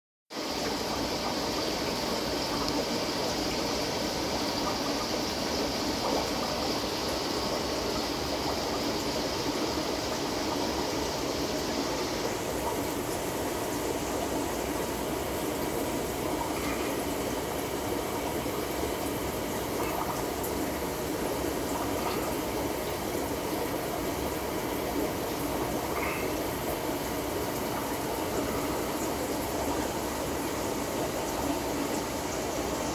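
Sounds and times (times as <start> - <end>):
aquarium water trickling: 0.4 - 32.9.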